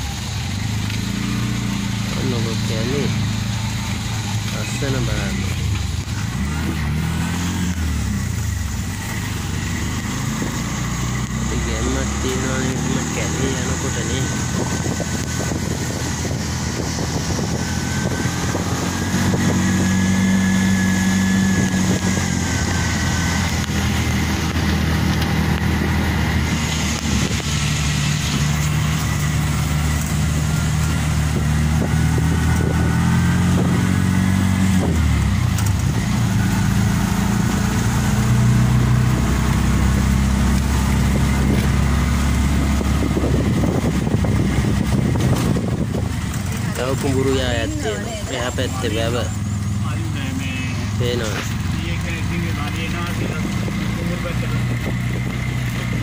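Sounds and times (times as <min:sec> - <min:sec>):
auto-rickshaw engine running: 0:00.0 - 0:56.0.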